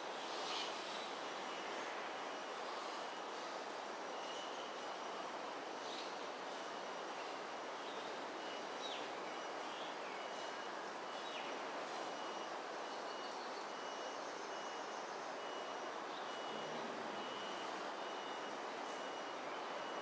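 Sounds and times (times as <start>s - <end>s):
faint high beep: 1.4s - 20.0s.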